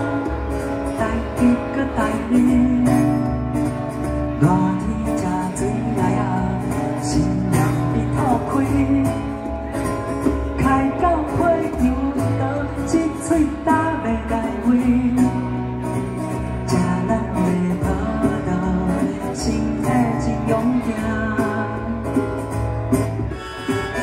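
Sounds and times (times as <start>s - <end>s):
acoustic guitar strumming: 0.0s - 24.0s
man singing: 0.0s - 24.0s.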